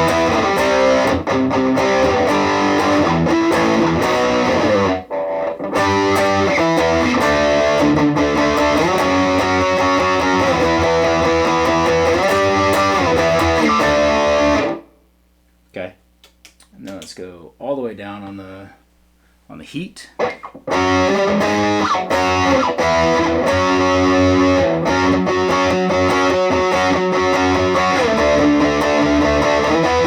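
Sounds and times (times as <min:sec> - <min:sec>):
distorted electric guitar riffing: 0:00.0 - 0:14.9, 0:20.2 - 0:30.0.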